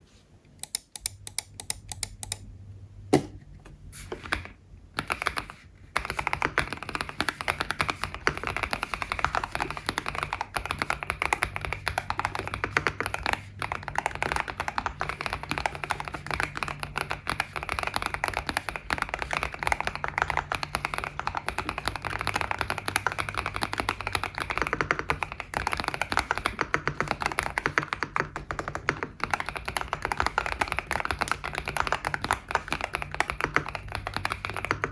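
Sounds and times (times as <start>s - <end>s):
mechanical keyboard typing: 0.6s - 2.4s, 4.0s - 34.9s.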